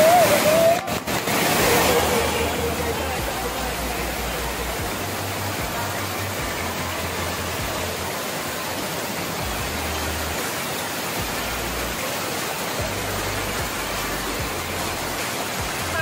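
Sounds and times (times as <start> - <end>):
water rushing over a weir: 0.0 - 16.0.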